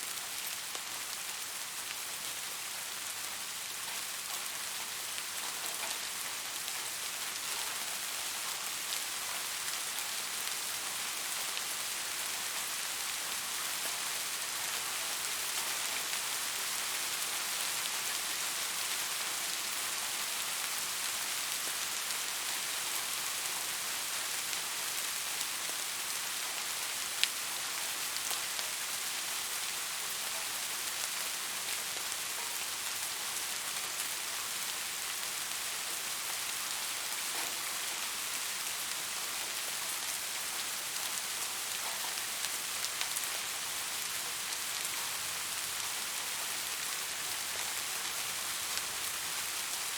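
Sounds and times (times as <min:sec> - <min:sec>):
soft steady rain: 0:00.0 - 0:49.9.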